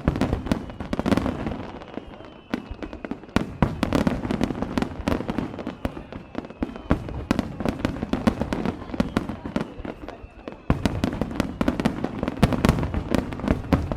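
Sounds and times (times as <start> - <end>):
fireworks popping and crackling: 0.0 - 13.9.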